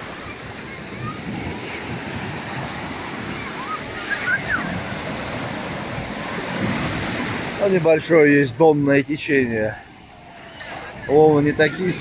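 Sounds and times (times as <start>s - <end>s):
surf breaking on shore: 0.0s - 12.0s.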